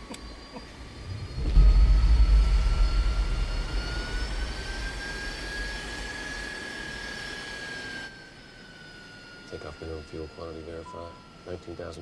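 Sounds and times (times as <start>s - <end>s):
high engine whine: 0.0s - 12.0s
jet engine low rumble: 0.0s - 12.0s.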